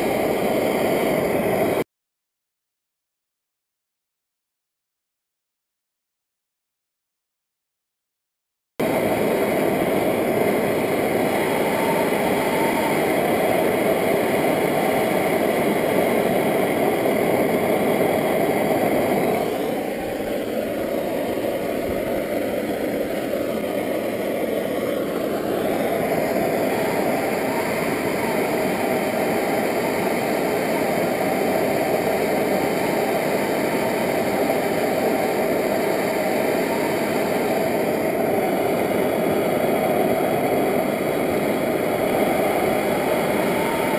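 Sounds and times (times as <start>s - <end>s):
gas torch flame burning: 0.0s - 1.8s, 8.8s - 43.9s.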